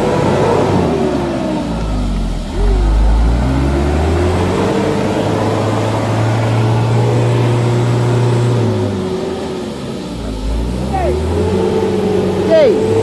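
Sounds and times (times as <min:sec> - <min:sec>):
diesel truck engine revving hard: 0:00.0 - 0:13.0.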